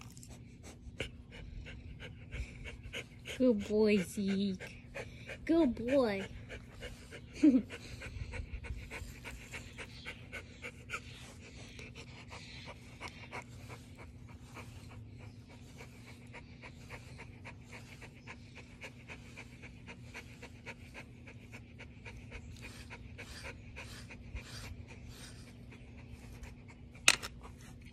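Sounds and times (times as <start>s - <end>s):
dog panting: 0.1s - 27.9s.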